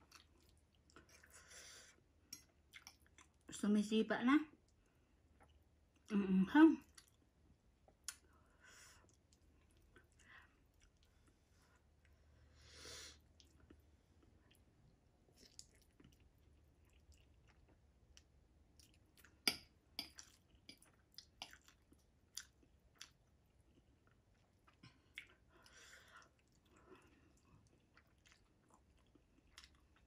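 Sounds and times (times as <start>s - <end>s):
soft chewing: 0.0s - 3.6s, 4.5s - 30.0s.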